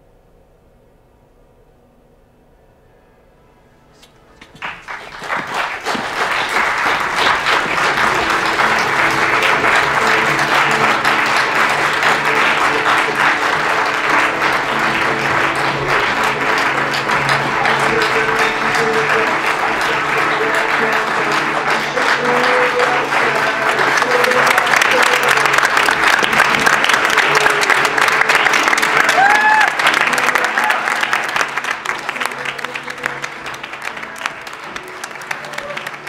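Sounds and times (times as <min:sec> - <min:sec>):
music playing: 0:01.3 - 0:36.0
audience applauding: 0:04.4 - 0:36.0.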